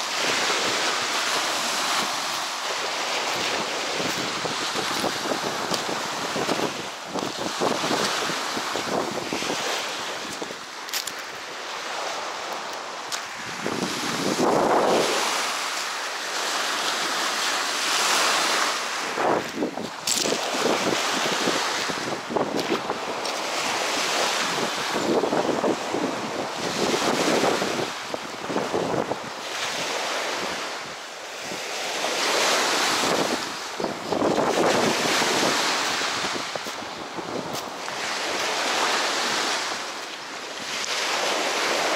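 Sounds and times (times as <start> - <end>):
wind buffeting microphone: 0.0 - 11.0, 11.9 - 15.6, 19.0 - 30.8, 32.7 - 39.8
small waves washing onto shore: 0.0 - 41.9.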